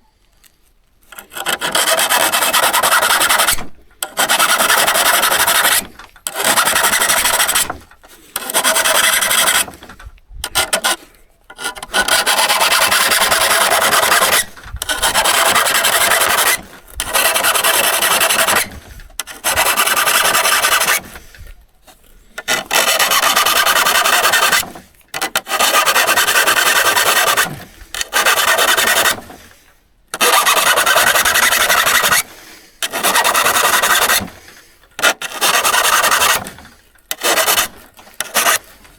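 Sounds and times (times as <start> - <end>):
gritty scraping on a saw: 1.0 - 38.9.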